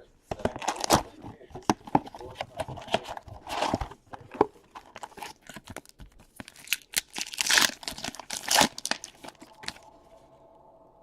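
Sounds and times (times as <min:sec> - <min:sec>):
card wrappers tearing and crinkling: 0:00.3 - 0:09.8.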